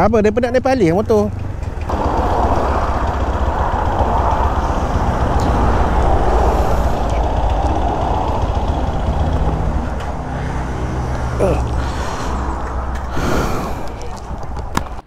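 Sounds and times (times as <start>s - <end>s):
vehicle noise rushing: 0.6s - 15.0s.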